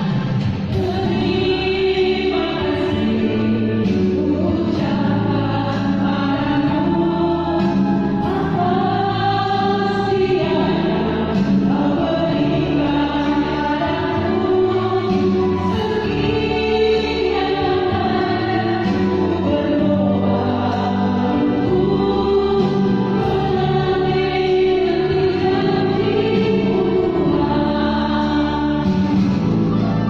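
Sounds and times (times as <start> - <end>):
choir singing long chords: 0.0 - 30.0
low sustained bass notes: 0.0 - 30.0.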